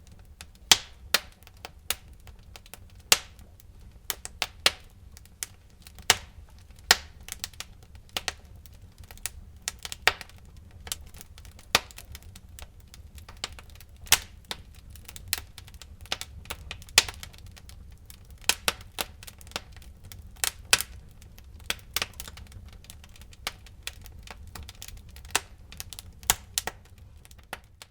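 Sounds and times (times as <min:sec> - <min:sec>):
low rumble of flames: 0:00.0 - 0:27.9
wood fire crackling: 0:00.0 - 0:27.9.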